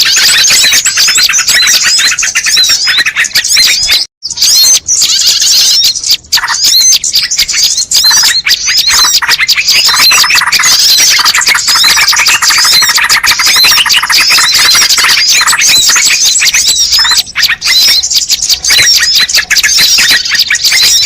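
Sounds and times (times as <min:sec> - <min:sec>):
chorus of birds chirping: 0:00.0 - 0:21.0.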